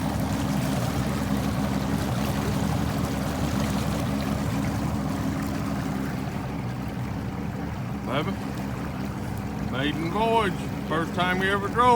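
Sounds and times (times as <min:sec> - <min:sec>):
outboard motor running: 0:00.0 - 0:11.9
water rushing: 0:00.0 - 0:11.9.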